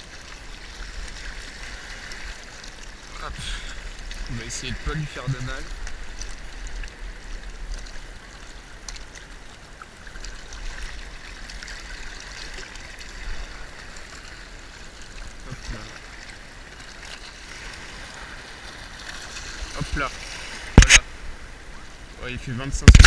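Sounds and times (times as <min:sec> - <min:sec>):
seawater lapping over rocks: 0:00.0 - 0:23.0.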